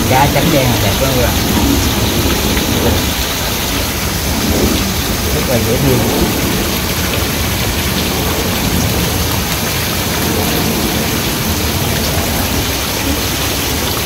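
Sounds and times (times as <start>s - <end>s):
waterfall pouring into pond: 0.0s - 14.0s.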